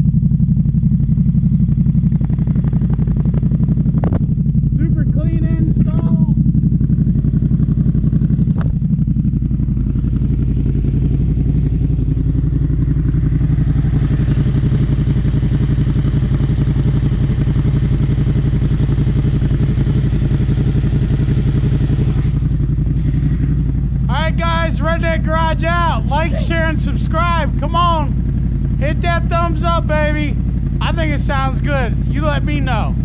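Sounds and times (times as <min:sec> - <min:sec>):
v-twin engine idling: 0:00.0 - 0:33.0.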